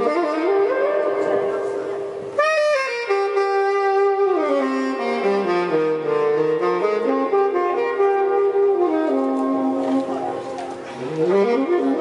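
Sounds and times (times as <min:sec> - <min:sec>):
saxophone background music: 0:00.0 - 0:12.0.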